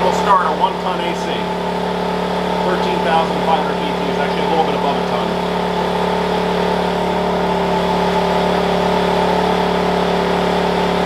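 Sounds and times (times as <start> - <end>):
air conditioner running: 0.0 - 11.0
generator engine humming: 0.0 - 11.0.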